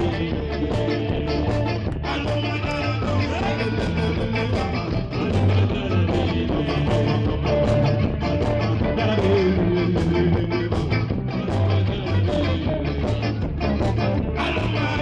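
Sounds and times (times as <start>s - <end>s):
live band playing amplified music: 0.0s - 15.0s.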